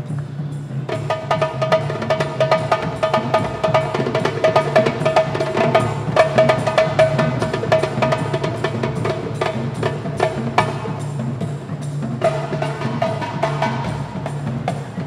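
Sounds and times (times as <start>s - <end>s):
percussion ensemble fast rhythm: 0.0s - 15.0s.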